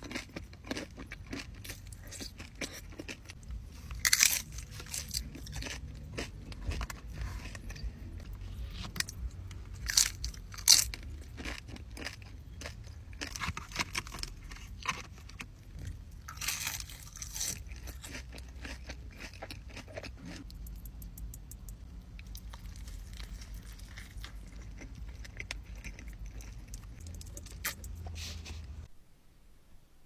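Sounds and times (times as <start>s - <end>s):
crunchy bites and chewing: 0.0s - 28.8s.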